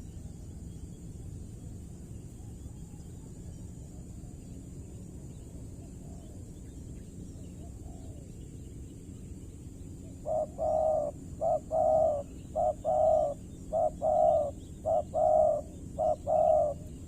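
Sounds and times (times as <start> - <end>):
distant bird calls: 0.0 - 17.0
steady low rumble: 0.0 - 17.0.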